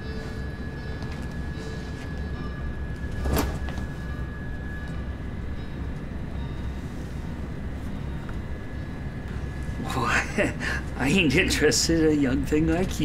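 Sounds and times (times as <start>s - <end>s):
railway car rumble: 0.0s - 13.0s.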